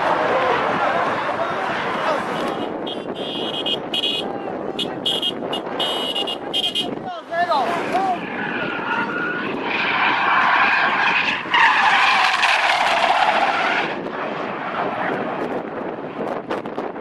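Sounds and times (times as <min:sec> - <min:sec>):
car tyres squealing: 0:00.0 - 0:15.7
road and engine rumble: 0:00.0 - 0:17.0.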